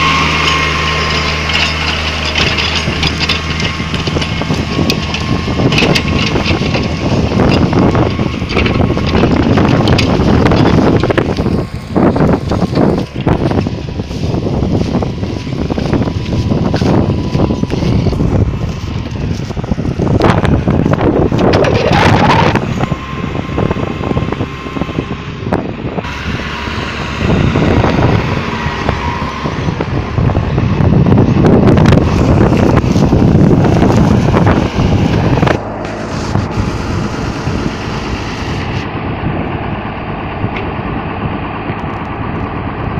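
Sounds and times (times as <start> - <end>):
tractor engine under load: 0.0 - 42.9
wind buffeting microphone: 0.0 - 42.9.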